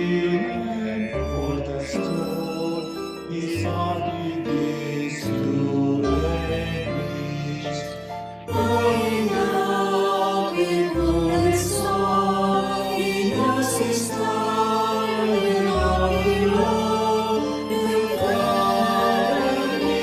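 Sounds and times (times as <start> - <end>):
choir singing a slow hymn: 0.0 - 20.0.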